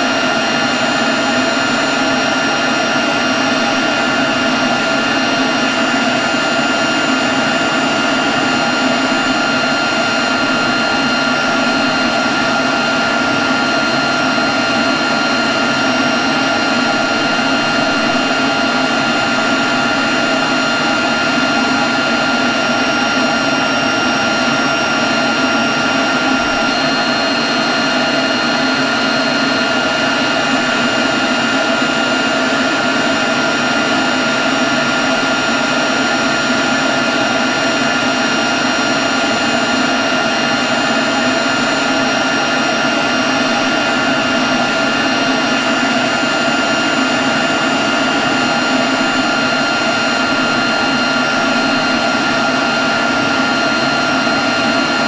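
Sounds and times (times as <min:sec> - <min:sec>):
leaf blower running: 0:00.0 - 0:55.0.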